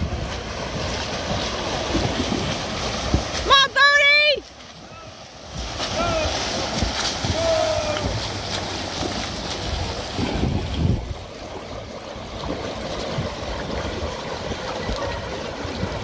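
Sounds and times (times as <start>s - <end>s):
wind rumbling on microphone: 0.0s - 3.6s, 4.2s - 16.0s
swimmers splashing: 0.0s - 16.0s.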